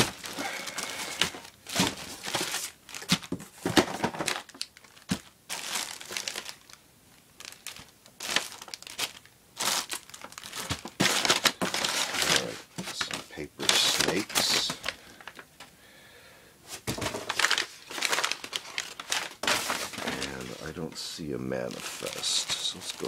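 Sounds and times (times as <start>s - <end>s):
plastic bags crinkling: 0.0s - 6.8s, 7.4s - 15.6s, 16.8s - 23.0s.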